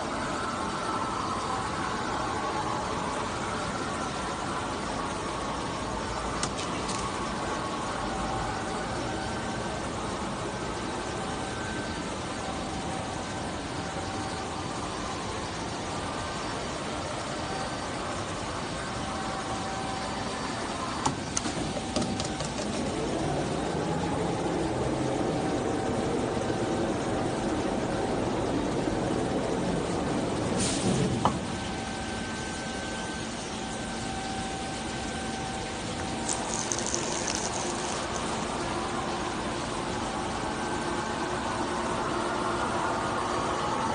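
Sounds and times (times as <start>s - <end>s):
faint hum: 0.0s - 30.6s, 31.2s - 43.9s
factory machinery running: 0.0s - 43.9s.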